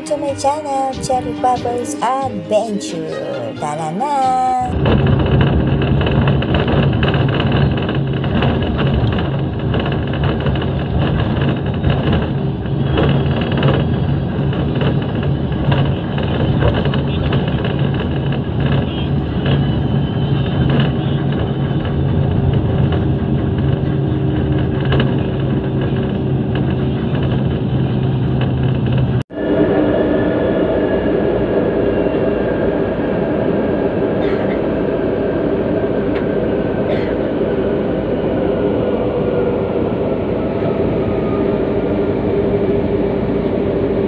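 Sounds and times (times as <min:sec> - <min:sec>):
bus engine hum: 0:00.0 - 0:44.0
train car running noise: 0:00.0 - 0:44.0
tyre and wind noise: 0:04.7 - 0:44.0.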